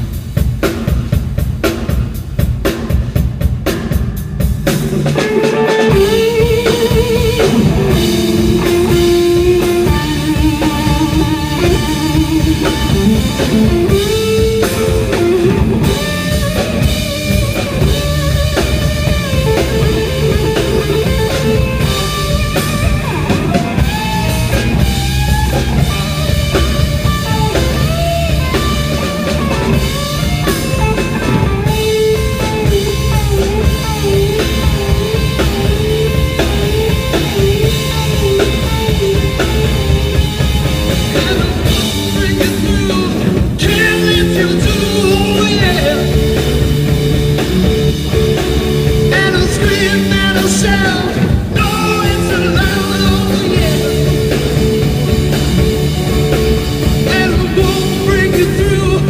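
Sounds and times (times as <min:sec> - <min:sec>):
bass: 0:00.0 - 0:59.0
drum kit: 0:00.0 - 0:59.0
electric guitar: 0:00.0 - 0:59.0.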